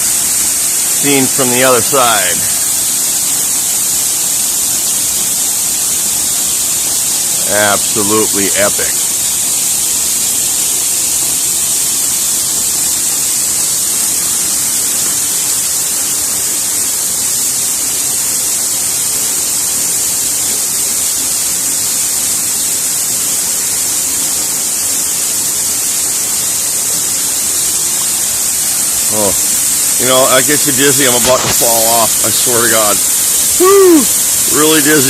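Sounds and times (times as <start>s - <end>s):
waterfall hissing: 0.0s - 35.0s.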